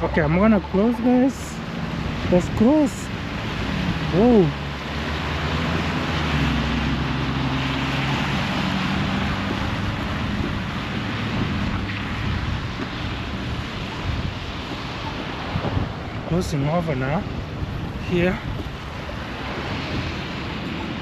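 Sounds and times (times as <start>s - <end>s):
vehicle engine hum: 0.0s - 21.0s
wind and road noise: 0.0s - 21.0s.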